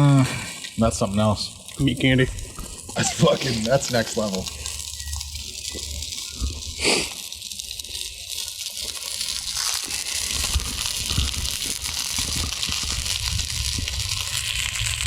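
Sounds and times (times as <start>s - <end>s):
ribs sizzling in a pan: 0.0s - 15.0s.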